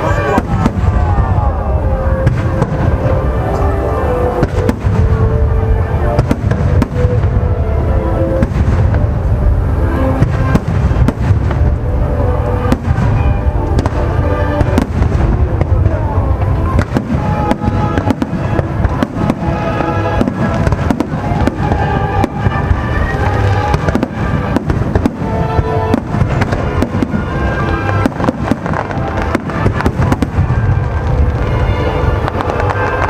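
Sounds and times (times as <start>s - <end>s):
deep continuous rumble: 0.0s - 33.0s
fireworks bangs and crackling: 0.0s - 33.0s
music: 0.0s - 33.0s.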